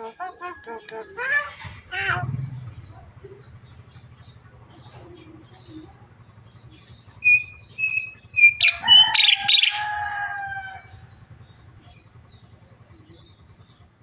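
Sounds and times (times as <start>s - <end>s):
myna calling: 0.0s - 12.1s.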